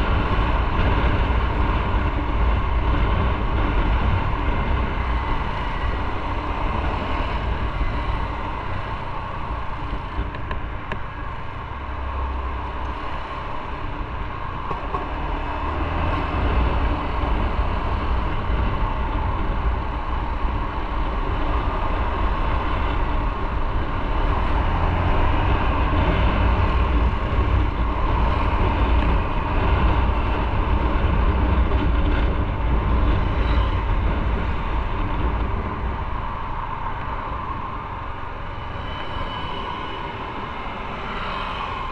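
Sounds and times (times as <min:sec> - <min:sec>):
road noise: 0:00.0 - 0:41.9
wind rushing: 0:00.0 - 0:41.9.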